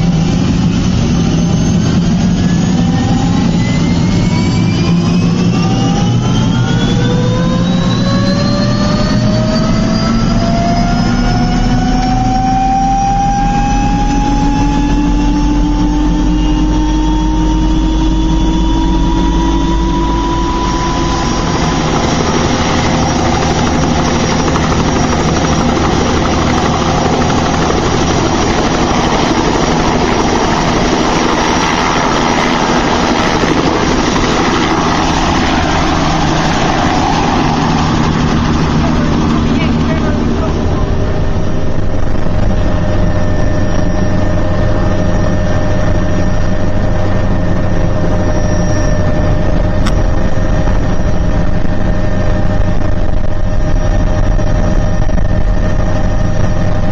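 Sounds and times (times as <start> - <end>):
helicopter engine and rotor noise: 0.0 - 56.9.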